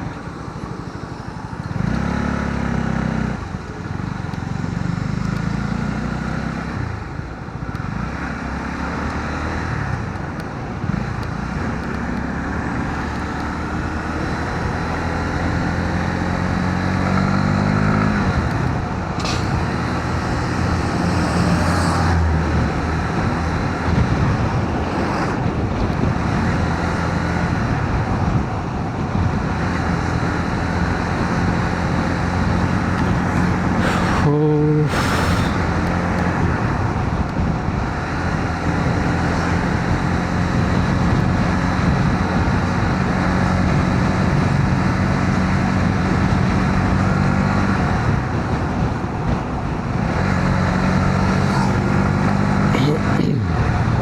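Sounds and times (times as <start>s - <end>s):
motorcycle engine accelerating: 0.0s - 54.0s
wind and road noise: 0.0s - 54.0s.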